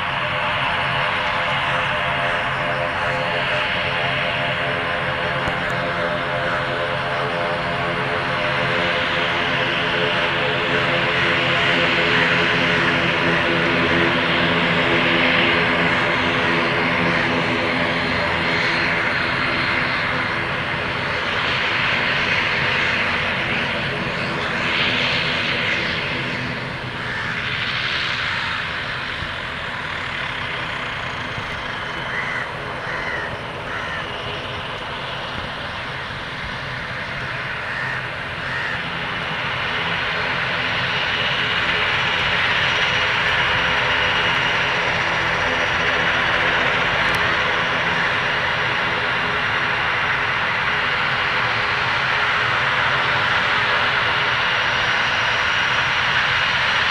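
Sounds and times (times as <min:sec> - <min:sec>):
turboprop engines droning: 0:00.0 - 0:56.9.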